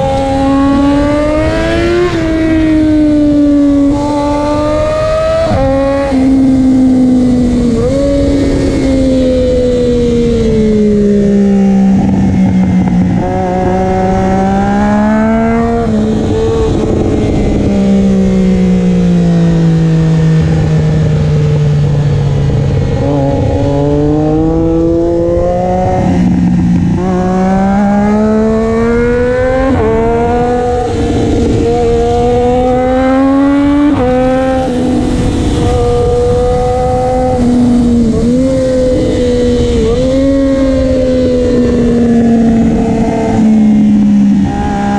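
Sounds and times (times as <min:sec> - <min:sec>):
loud motorcycle engine revving: 0:00.0 - 0:44.9.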